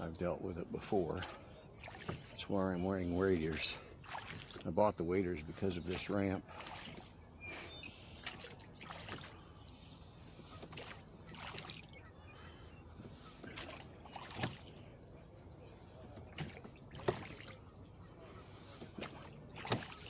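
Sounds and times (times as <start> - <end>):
water trickling along hull: 0.0 - 20.0
oars splashing and knocking: 0.8 - 7.2, 7.8 - 20.0.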